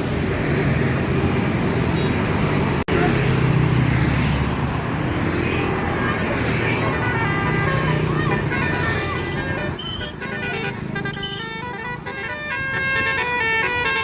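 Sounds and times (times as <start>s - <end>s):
road traffic: 0.0s - 14.0s
bus engine running: 2.4s - 14.0s.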